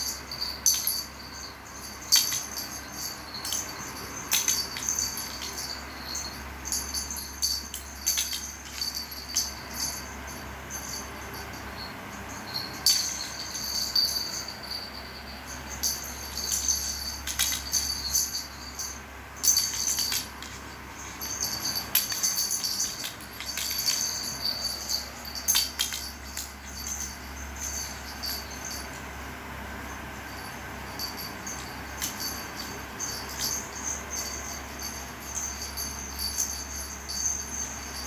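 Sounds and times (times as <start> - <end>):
jingle-bell toy jingling: 0.0 - 38.0.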